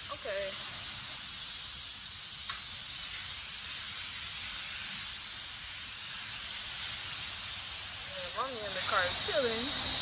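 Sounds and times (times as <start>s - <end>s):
pressure washer spraying hiss: 0.0s - 10.0s.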